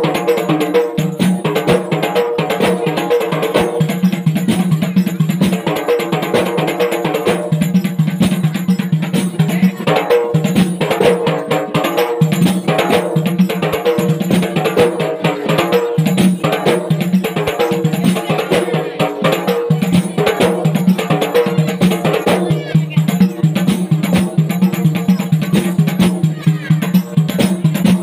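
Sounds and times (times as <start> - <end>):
frame drums in fast rhythm: 0.0 - 28.0.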